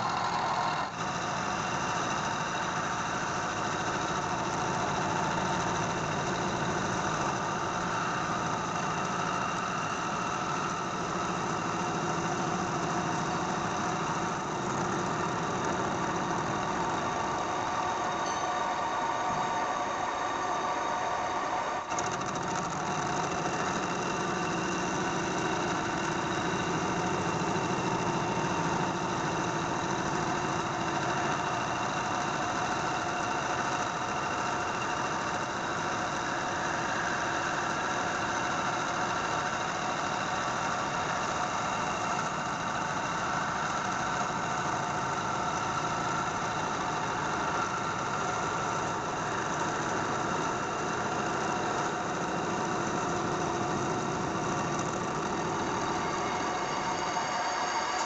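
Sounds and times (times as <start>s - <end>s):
metal lathe running: 0.0s - 58.0s.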